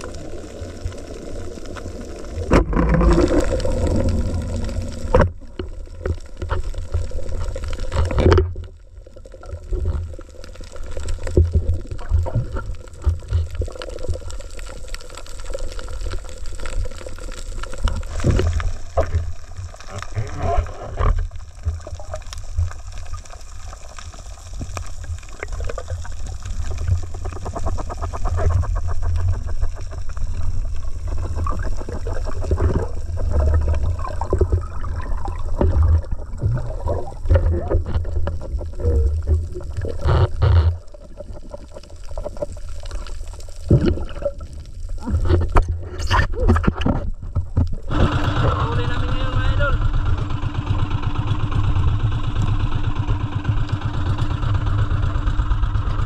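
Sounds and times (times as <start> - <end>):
low underwater rumble: 0.0 - 56.0
water sloshing and gurgling: 0.0 - 56.0.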